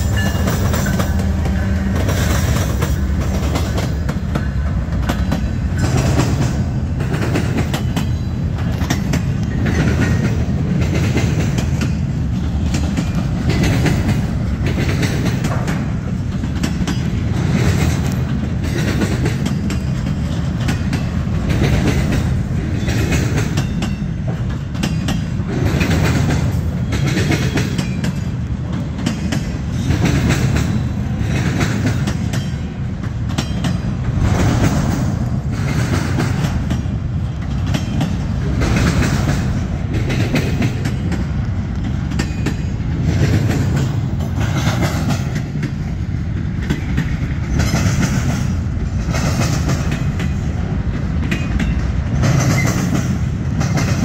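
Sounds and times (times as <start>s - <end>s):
diesel locomotives running: 0.0s - 54.0s
freight cars rumbling: 0.0s - 54.0s
wheels clacking over rail joints: 0.0s - 54.0s.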